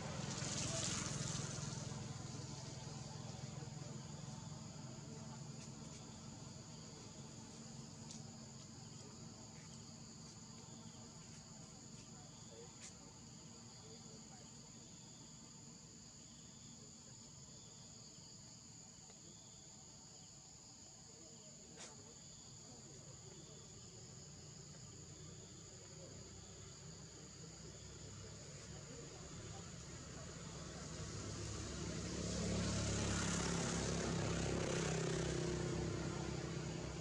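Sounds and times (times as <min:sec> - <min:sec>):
forest insects droning: 0:00.0 - 0:37.0
soft insect chirp: 0:00.2 - 0:37.0.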